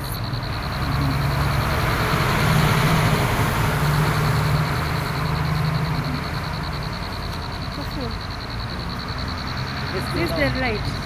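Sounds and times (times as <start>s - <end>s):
vehicle passing close by: 0.0s - 11.0s.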